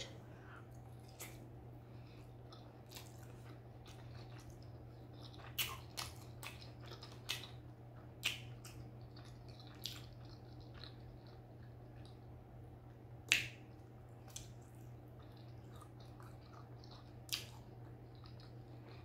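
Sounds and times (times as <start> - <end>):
steady low hum: 0.0 - 19.0
person chewing with mouth smacks: 0.4 - 12.3, 12.9 - 19.0.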